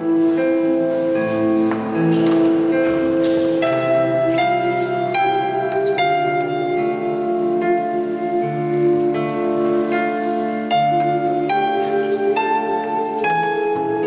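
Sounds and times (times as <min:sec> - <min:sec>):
digital piano held notes: 0:00.0 - 0:14.0.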